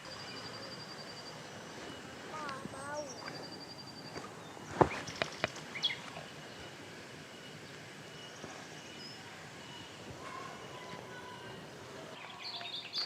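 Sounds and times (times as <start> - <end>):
faint bird chirps: 0.0 - 13.0
outdoor background hiss: 0.0 - 13.0.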